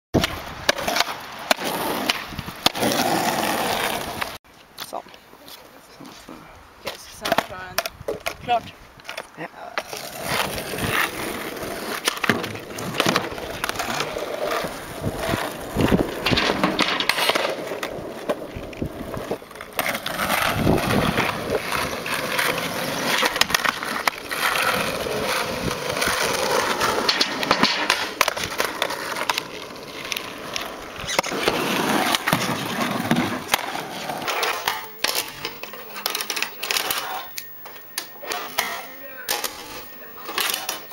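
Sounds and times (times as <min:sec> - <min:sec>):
skateboard deck clacking: 0:00.2 - 0:04.4, 0:09.0 - 0:40.9
skateboard wheels rolling on asphalt: 0:00.2 - 0:40.9.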